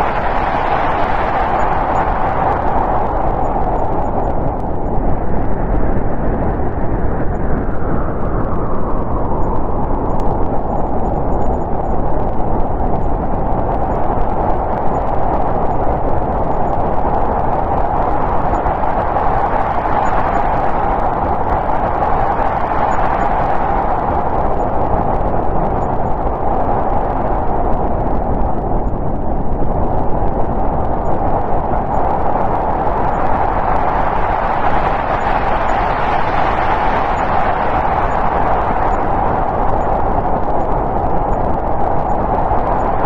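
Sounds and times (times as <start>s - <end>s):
snowstorm wind rushing: 0.0s - 43.0s.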